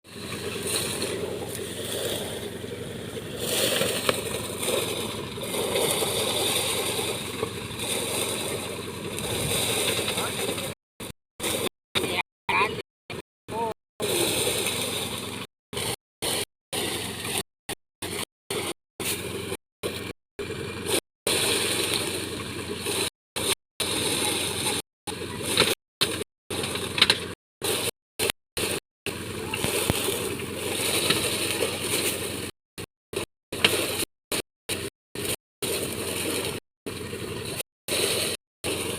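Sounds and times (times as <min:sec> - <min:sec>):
rice threshing machine running: 0:00.1 - 0:10.8, 0:13.5 - 0:17.4, 0:18.0 - 0:32.5, 0:34.7 - 0:38.9.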